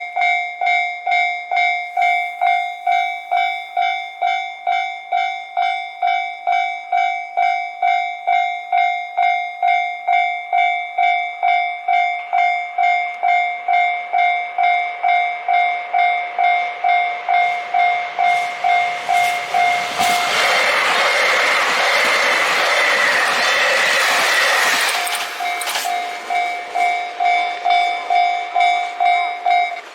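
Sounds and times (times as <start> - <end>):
approaching diesel train: 0.0 - 29.9
level-crossing warning bell: 0.0 - 29.9.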